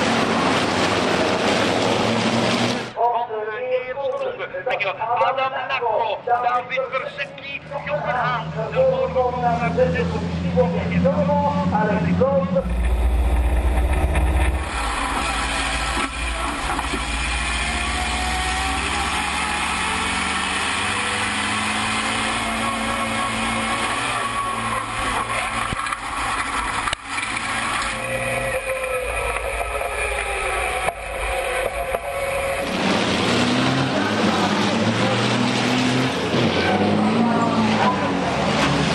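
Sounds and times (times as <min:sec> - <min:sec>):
truck diesel engine accelerating: 0:00.0 - 0:03.0, 0:06.9 - 0:38.9.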